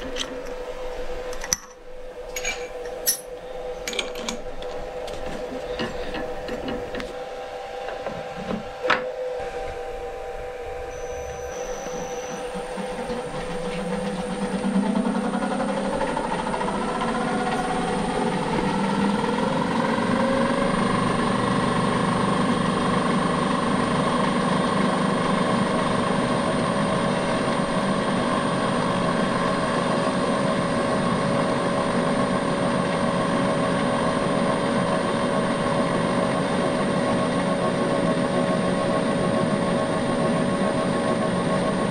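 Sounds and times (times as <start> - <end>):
milling machine spindle whine: 0.0 - 41.9.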